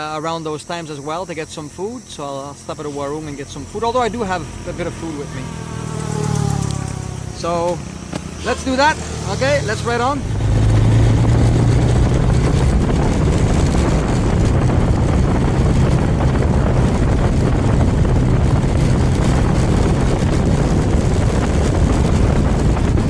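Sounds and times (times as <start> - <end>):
motorcycle engine running: 0.0 - 23.0
wind rush on microphone: 3.7 - 23.0.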